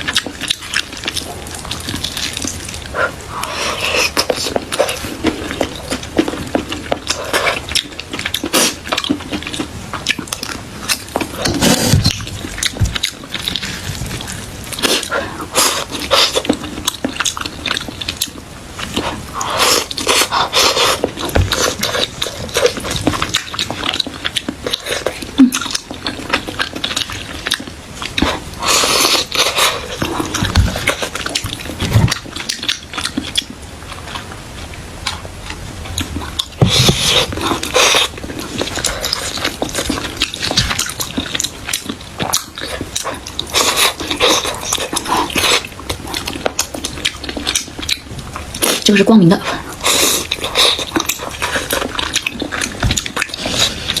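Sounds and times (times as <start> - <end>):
person chewing with mouth smacks: 0.0 - 54.0.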